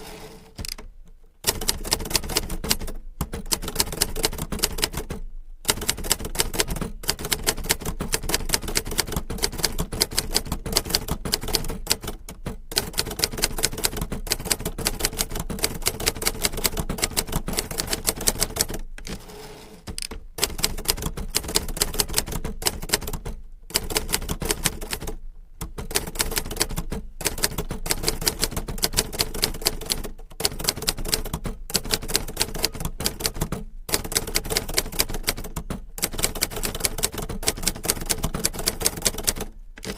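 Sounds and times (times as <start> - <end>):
manual typewriter typing: 0.5 - 39.9.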